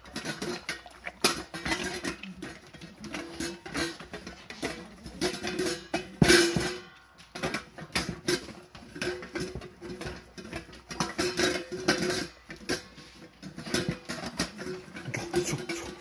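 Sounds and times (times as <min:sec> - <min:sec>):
metal bowls clinking and scraping: 0:00.0 - 0:16.0
puppies lapping from bowls: 0:00.0 - 0:16.0.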